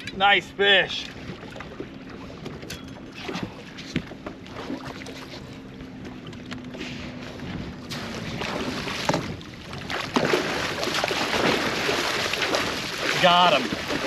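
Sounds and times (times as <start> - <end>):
water around a boat: 0.0 - 14.0.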